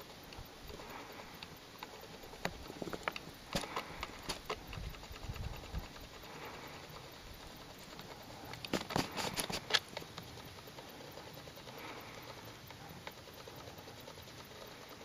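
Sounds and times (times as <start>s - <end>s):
animal chewing grass: 0.0s - 15.0s.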